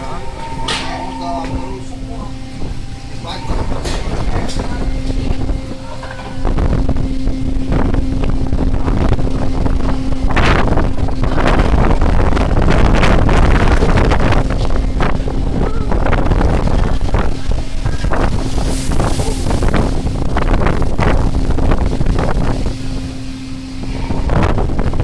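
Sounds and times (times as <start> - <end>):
boat engine humming: 0.0 - 25.0
wind on microphone: 0.0 - 25.0.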